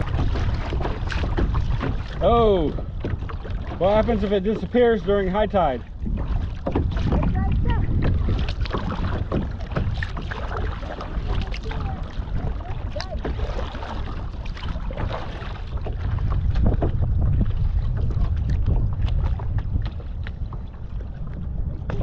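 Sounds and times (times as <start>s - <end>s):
water lapping against kayak hull: 0.0s - 22.0s
wind buffeting microphone: 0.0s - 22.0s.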